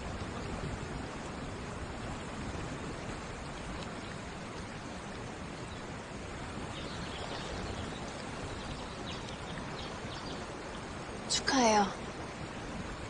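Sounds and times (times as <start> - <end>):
stream water flowing over stones: 0.0 - 13.0.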